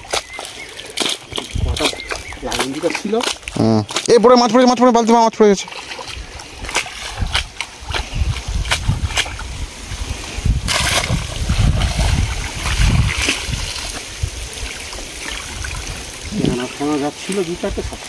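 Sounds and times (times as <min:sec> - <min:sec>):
splashing in muddy water: 0:00.0 - 0:18.0.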